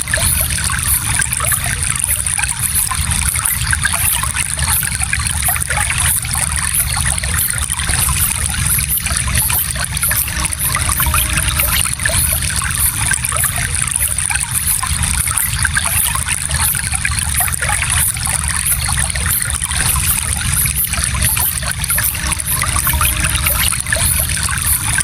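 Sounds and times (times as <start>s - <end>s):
stream trickling over stones: 0.0s - 25.0s.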